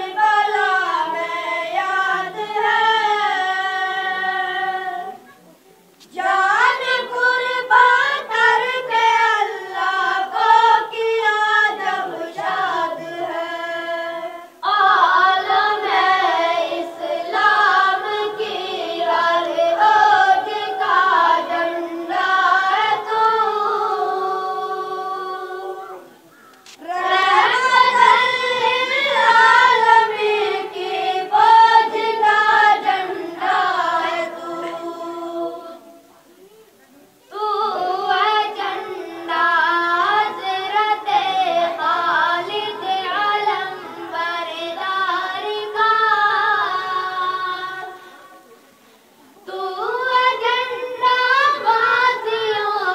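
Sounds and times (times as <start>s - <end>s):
person singing unaccompanied: 0.0s - 5.3s, 6.0s - 36.2s, 37.3s - 48.5s, 49.3s - 52.9s.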